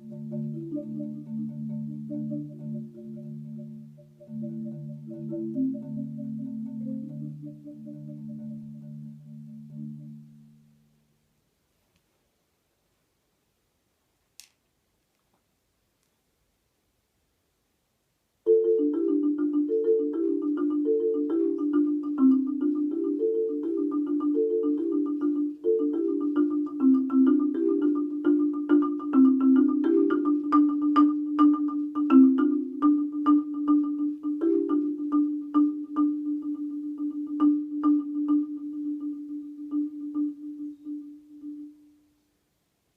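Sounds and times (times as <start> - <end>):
marimba played with mallets: 0.0 - 11.1, 18.5 - 42.0.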